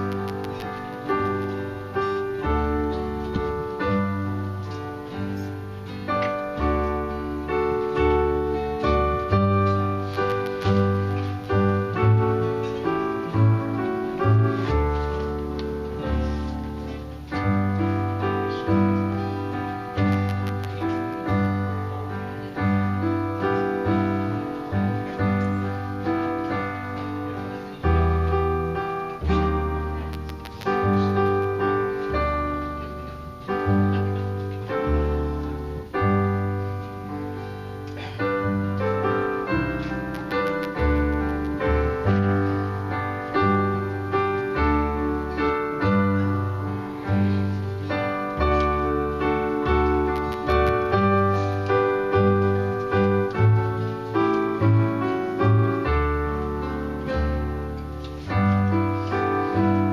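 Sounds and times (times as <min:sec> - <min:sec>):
solo piano playing: 0:00.0 - 0:59.9.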